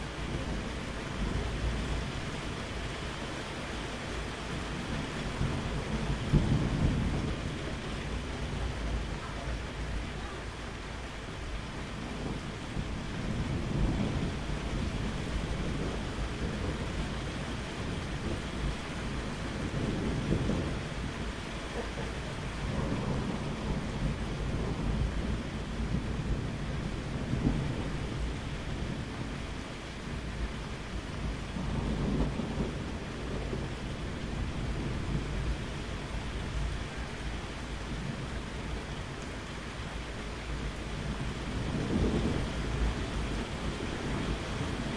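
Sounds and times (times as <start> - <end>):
low thunder rumble: 0.0 - 44.9
steady rain: 0.0 - 44.9.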